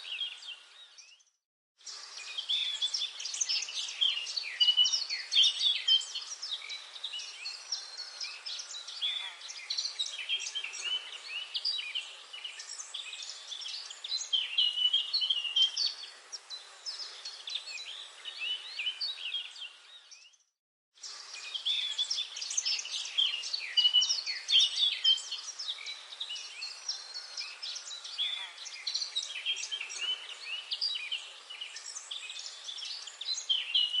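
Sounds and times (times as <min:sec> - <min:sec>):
birds chirping and trilling: 0:00.0 - 0:34.0
faint steady hiss: 0:01.8 - 0:20.0, 0:21.0 - 0:34.0.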